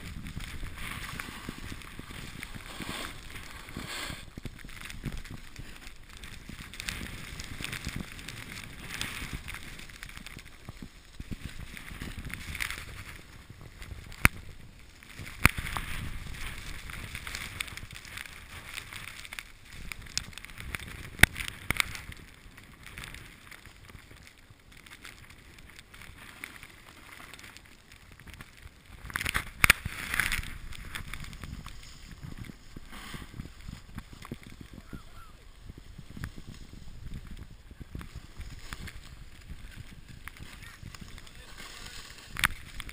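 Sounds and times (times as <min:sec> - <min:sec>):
snowboard scraping over snow: 0:00.0 - 0:42.9
wind rumbling on microphone: 0:00.0 - 0:42.9.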